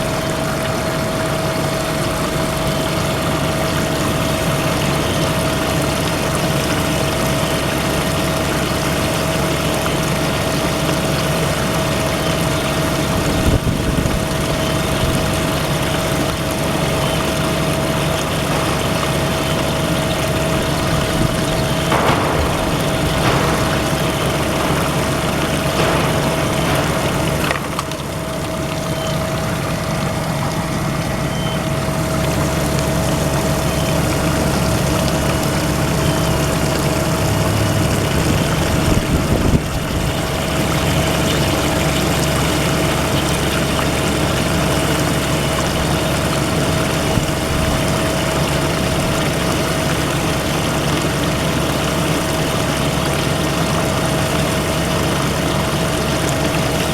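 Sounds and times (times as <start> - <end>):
grinding machine hum with whine: 0.0 - 56.9.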